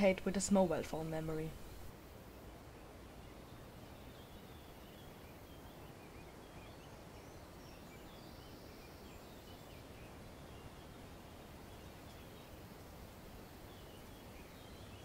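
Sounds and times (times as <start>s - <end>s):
faint bird chirps: 2.6s - 15.0s.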